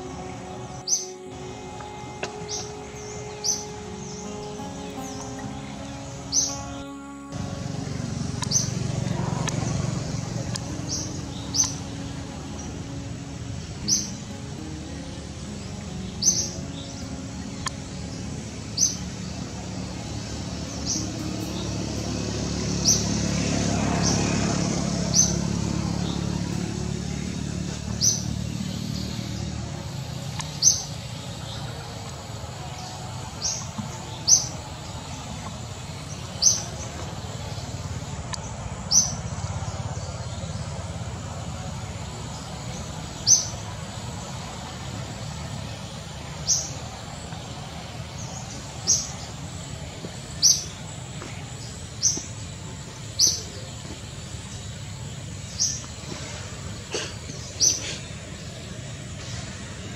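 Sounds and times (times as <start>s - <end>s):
bird chirping: 0.0s - 59.5s.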